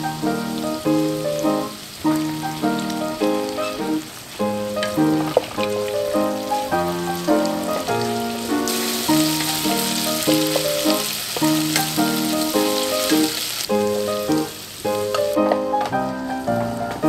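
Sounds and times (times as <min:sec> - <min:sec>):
meat sizzling in a wok: 0:00.0 - 0:15.5
piano background music: 0:00.0 - 0:17.0.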